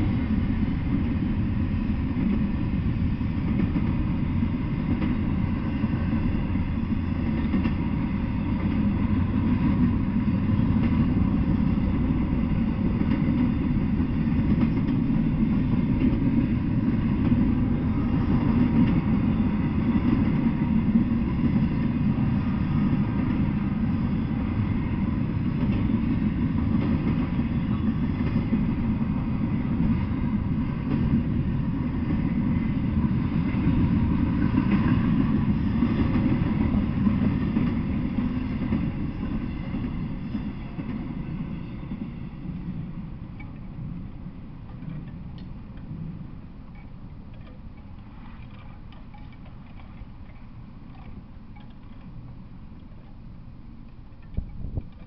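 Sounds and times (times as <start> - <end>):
freight train rumbling on rails: 0.0 - 55.0.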